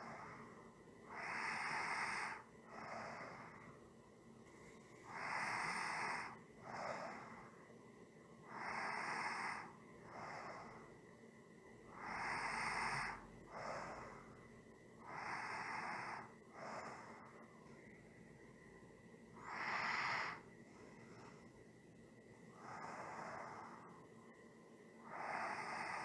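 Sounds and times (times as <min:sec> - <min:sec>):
person breathing slowly: 0:00.0 - 0:07.7, 0:08.4 - 0:11.1, 0:11.9 - 0:18.0, 0:19.3 - 0:21.8, 0:22.4 - 0:24.2, 0:25.0 - 0:26.0.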